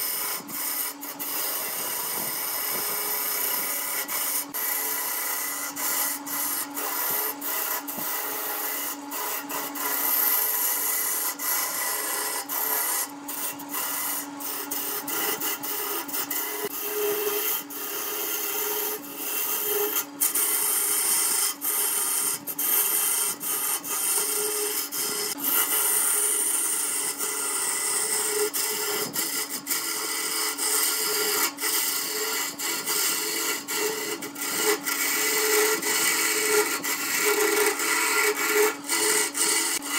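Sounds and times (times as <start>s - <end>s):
lathe motor hum: 0.0s - 39.9s
turning tool scraping wood: 0.0s - 39.9s.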